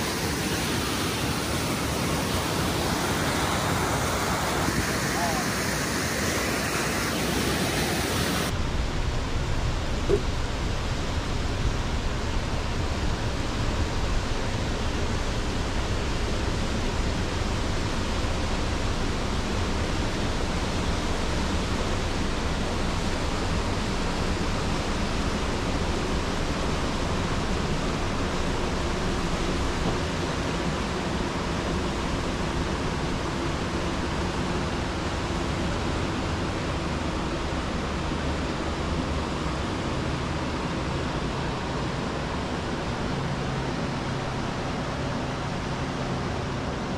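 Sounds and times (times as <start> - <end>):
faint steady hum: 0.0 - 46.9
water and wind noise: 0.0 - 46.9.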